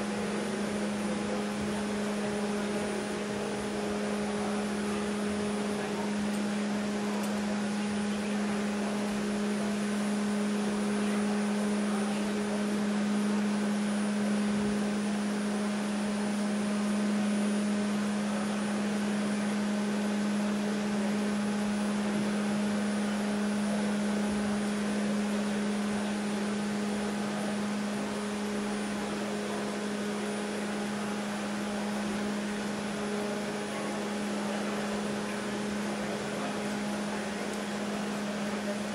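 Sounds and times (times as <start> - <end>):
machine hum with low drone: 0.0 - 38.9.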